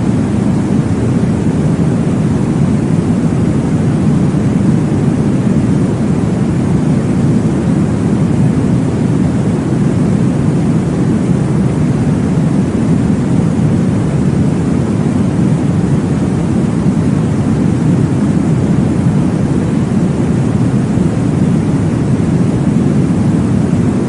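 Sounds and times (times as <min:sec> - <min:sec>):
muffled white noise rushing: 0:00.0 - 0:24.0.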